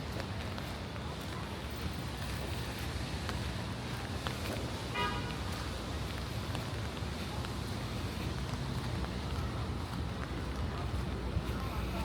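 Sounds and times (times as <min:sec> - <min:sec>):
footsteps on wet pavement: 0:00.0 - 0:12.0
low rumble of traffic: 0:00.0 - 0:12.0
steady rain on street: 0:00.0 - 0:12.0.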